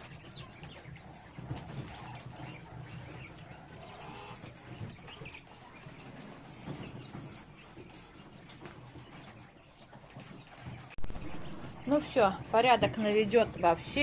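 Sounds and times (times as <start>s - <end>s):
quails chirping and clucking: 0.0s - 14.0s.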